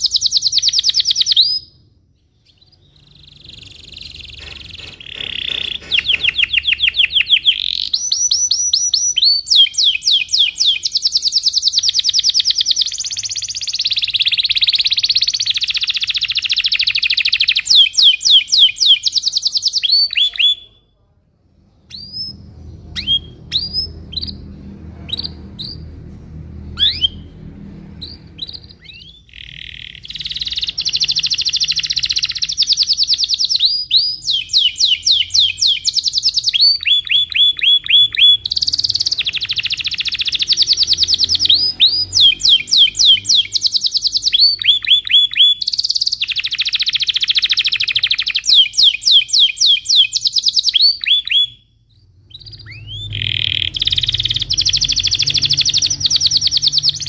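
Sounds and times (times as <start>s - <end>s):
bird chirps: 0.0s - 20.9s, 21.7s - 57.0s
canary trilling: 0.0s - 20.9s, 21.7s - 57.0s.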